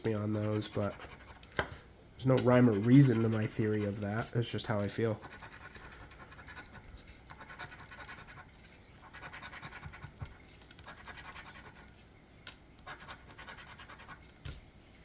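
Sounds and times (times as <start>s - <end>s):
scratching a scratch-off ticket: 0.0s - 1.5s, 2.4s - 12.0s, 12.8s - 14.3s.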